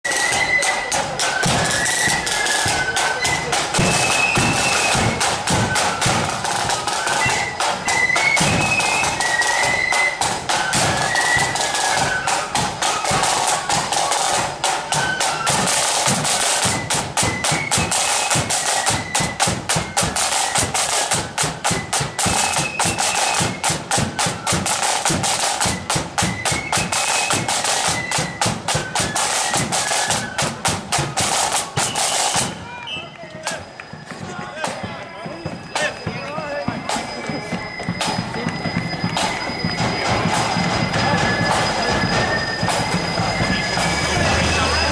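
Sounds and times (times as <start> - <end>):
rapid snare drumming: 0.0 - 44.9
flutes playing a tune: 0.1 - 44.9.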